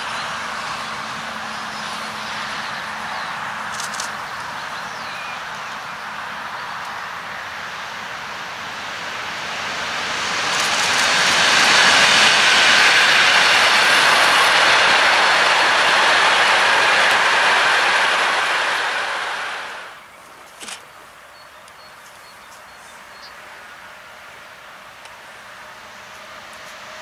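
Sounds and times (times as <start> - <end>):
freight train wheels rushing on rail: 0.0 - 27.0.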